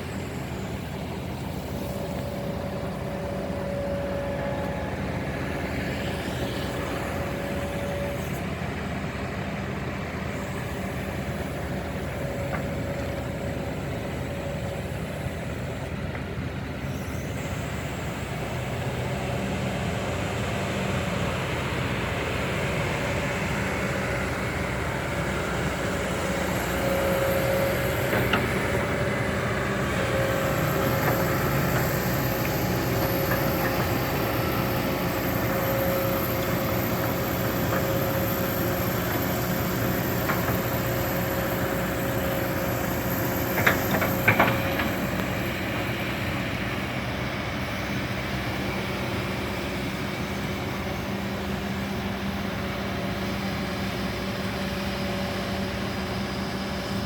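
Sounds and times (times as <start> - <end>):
diesel machinery running: 0.0 - 57.0.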